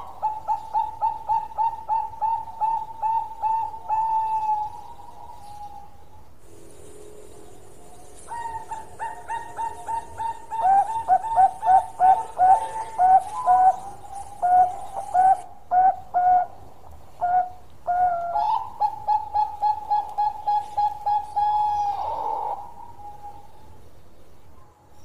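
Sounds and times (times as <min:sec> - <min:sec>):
dove cooing: 0:00.0 - 0:06.0, 0:06.7 - 0:23.7.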